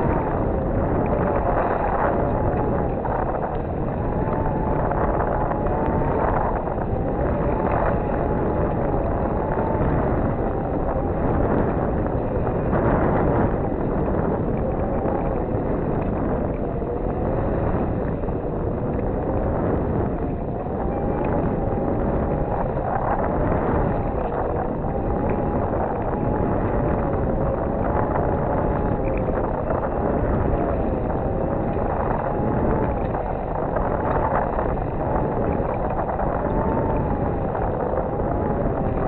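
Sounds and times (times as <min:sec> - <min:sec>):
faint wavering drone: 0:00.0 - 0:39.0
wind buffeting microphone: 0:00.0 - 0:39.0.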